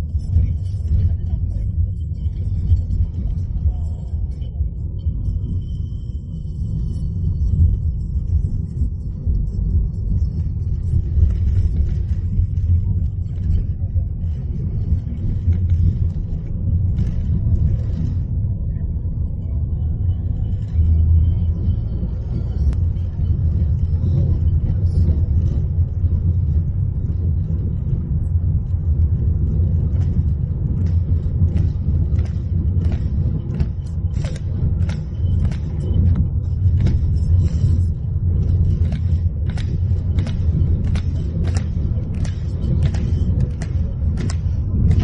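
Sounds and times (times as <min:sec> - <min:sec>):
road rumble inside car: 0:00.0 - 0:45.0.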